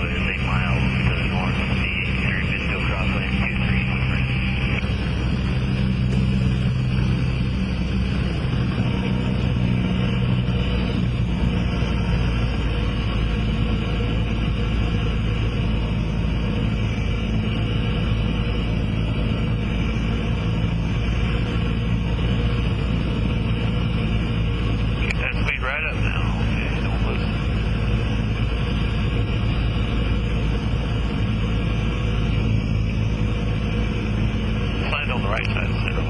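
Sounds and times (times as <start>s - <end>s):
airplane engine and propeller drone: 0.0s - 36.0s.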